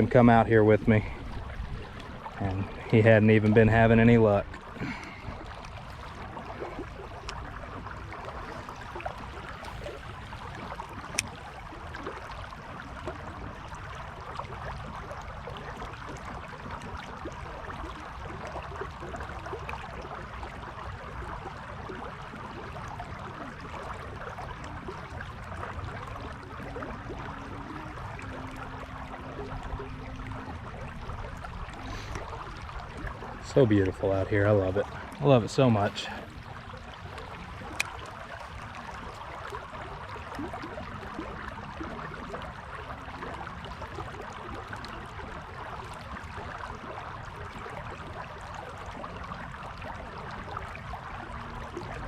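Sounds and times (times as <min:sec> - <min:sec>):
creek water running: 0:00.0 - 0:52.0.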